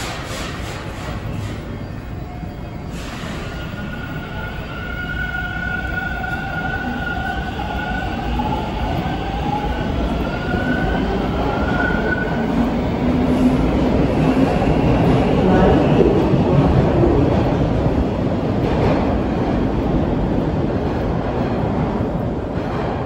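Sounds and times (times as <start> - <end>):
subway train low rumble: 0.0 - 23.0.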